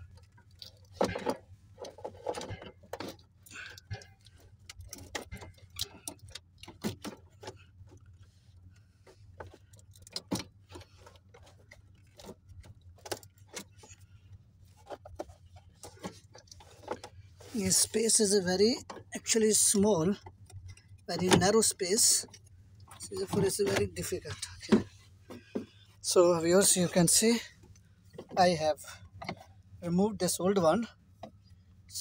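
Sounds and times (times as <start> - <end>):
plastic parts clicking and scraping: 0.0 - 29.7.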